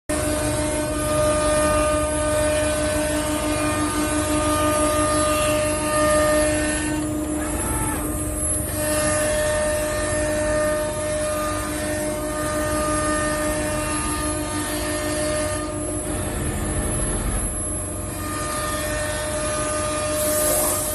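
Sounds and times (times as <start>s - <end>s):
cnc router running: 0.1s - 20.9s.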